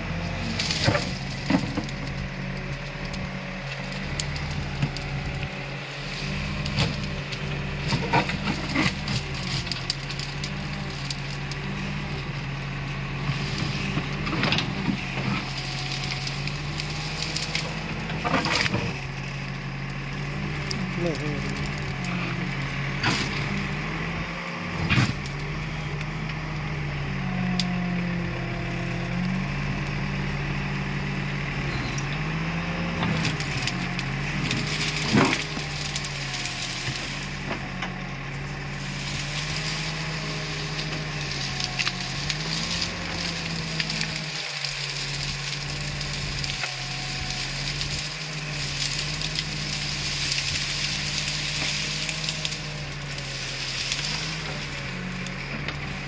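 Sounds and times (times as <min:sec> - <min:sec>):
bucket crushing dry branches: 0:00.0 - 0:24.0, 0:24.8 - 0:26.5, 0:32.1 - 0:56.0
diesel engine running: 0:00.0 - 0:56.0.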